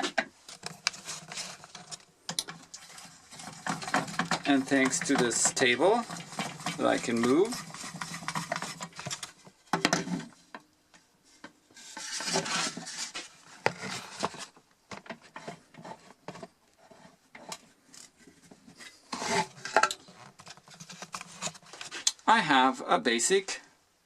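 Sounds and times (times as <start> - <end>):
wood rubbing and scraping: 0.0 - 10.4, 11.3 - 22.1.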